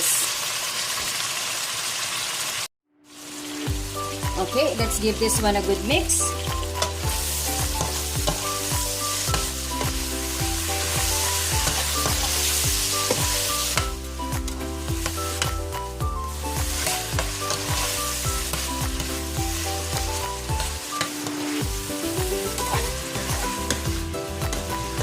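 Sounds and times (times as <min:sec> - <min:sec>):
vegetables sizzling in fat: 0:00.0 - 0:25.0
background music with bass line: 0:03.4 - 0:25.0.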